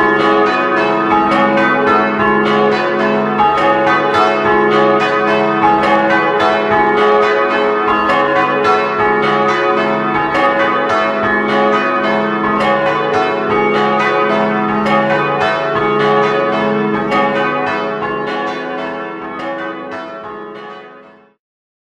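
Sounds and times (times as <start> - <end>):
church bells ringing: 0.0 - 21.4.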